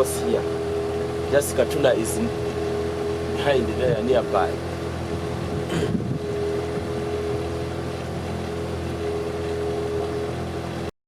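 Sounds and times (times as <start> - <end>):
motorboat engine droning: 0.0 - 10.9.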